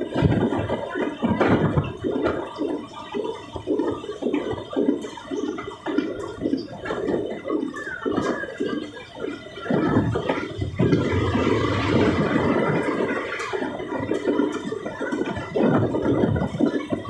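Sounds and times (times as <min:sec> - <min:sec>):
train rushing in motion: 0:00.0 - 0:17.0.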